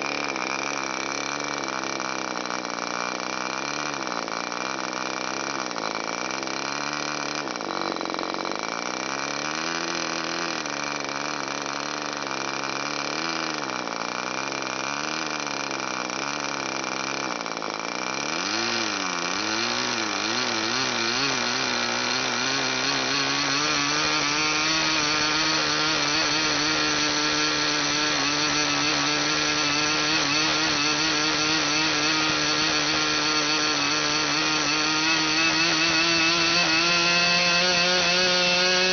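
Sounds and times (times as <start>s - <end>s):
model glow engine running: 0.0s - 38.9s.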